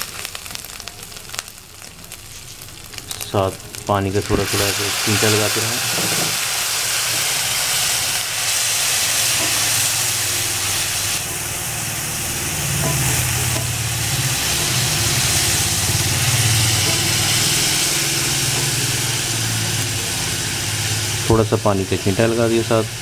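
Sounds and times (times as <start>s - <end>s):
food sizzling in oil: 0.0s - 23.0s
water hissing into steam: 3.1s - 23.0s.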